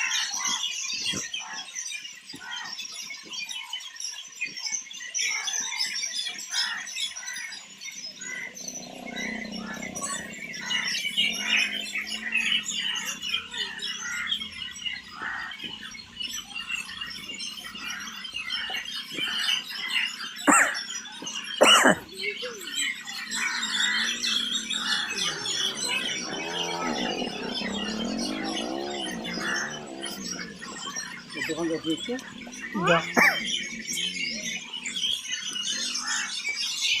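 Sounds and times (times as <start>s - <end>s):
birds chirping and twittering: 0.0s - 37.0s.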